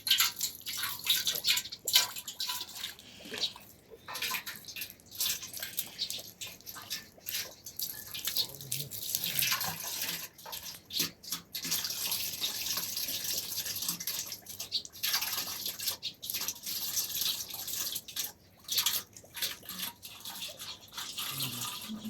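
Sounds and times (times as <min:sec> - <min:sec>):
water running and splashing: 0:00.0 - 0:22.0.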